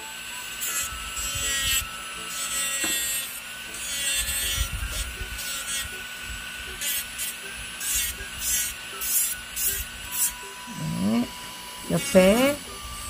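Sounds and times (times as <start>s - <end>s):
electric nail drill whining: 0.0s - 13.0s.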